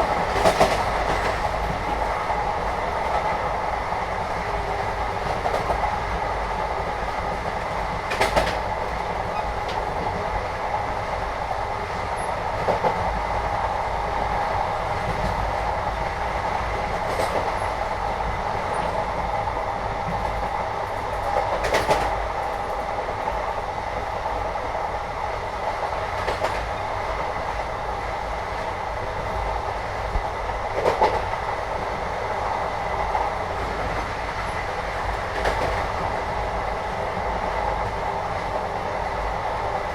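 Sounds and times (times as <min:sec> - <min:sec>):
train rumble and rattle: 0:00.0 - 0:39.9.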